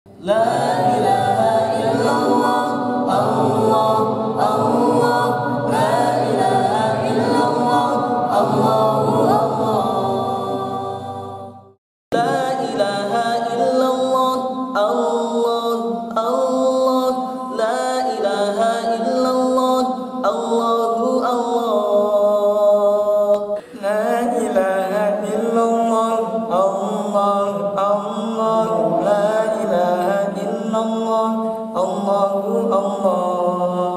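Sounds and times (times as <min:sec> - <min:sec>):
choir singing unaccompanied: 0:00.2 - 0:33.9.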